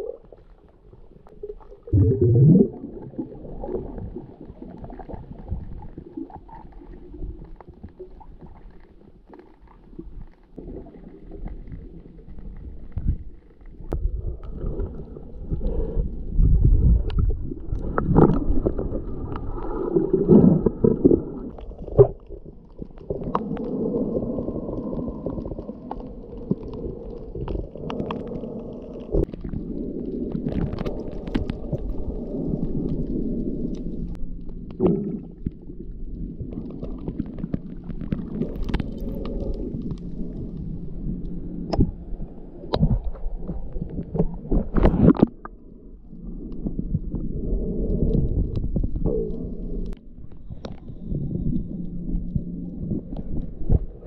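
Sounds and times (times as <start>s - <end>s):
underwater rumbling and gurgling: 0.0s - 54.0s.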